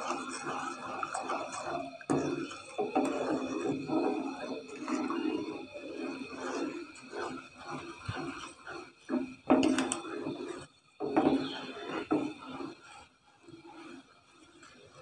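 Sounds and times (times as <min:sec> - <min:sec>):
spoon scraping a pot: 0:00.0 - 0:13.1.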